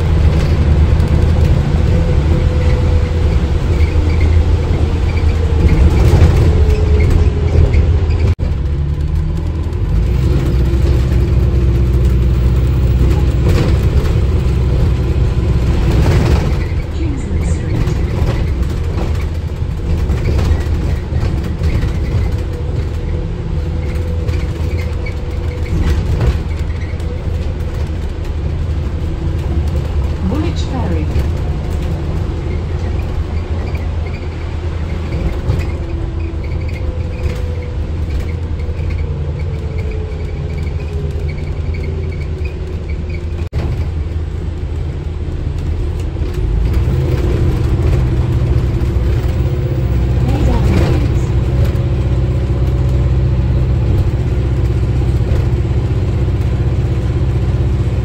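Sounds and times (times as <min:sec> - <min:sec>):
bus rumble from drivetrain and road: 0:00.0 - 0:58.0.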